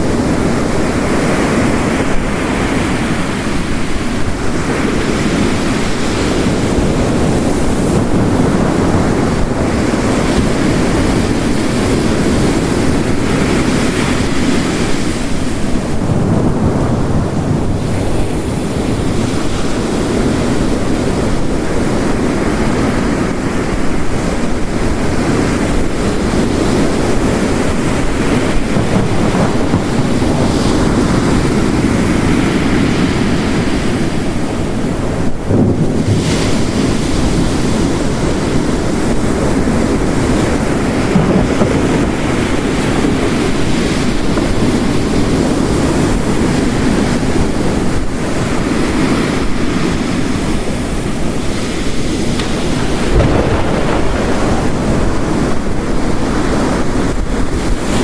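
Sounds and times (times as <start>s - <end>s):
heavy rain: 0.0s - 58.0s
waves crashing on rocks: 0.0s - 58.0s.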